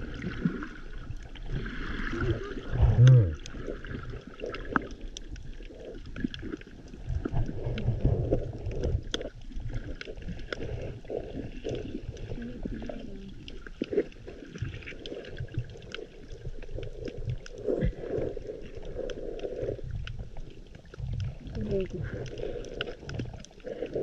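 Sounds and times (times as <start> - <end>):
underwater water rumble: 0.0 - 24.0
faint underwater clicks: 0.1 - 24.0.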